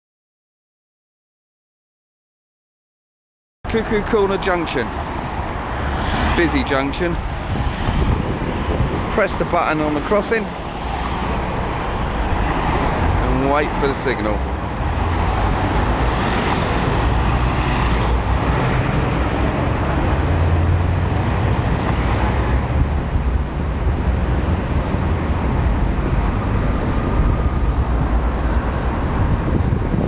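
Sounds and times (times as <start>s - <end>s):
road traffic rumble: 3.7s - 30.0s.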